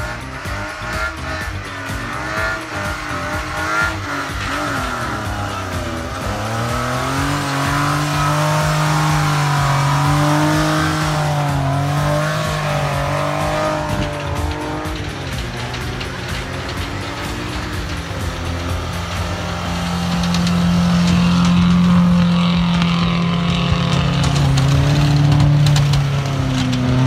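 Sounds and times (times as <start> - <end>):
engine revving hard: 0.0 - 27.0.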